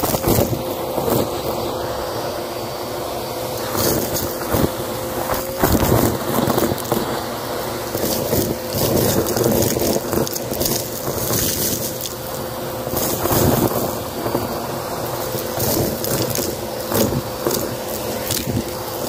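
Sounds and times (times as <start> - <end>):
debris crackling in vacuum: 0.0 - 19.0
vacuum cleaner whining: 0.0 - 19.0.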